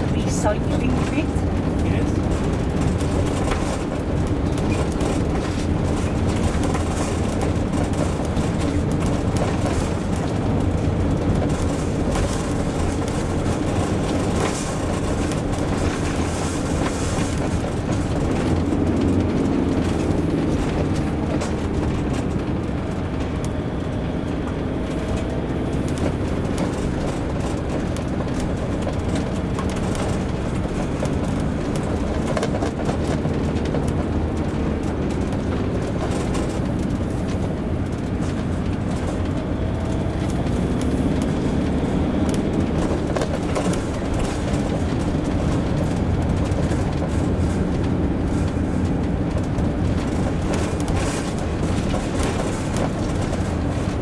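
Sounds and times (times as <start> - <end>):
engine and tyre road noise: 0.0 - 54.0
small clicks and rattles: 0.0 - 54.0.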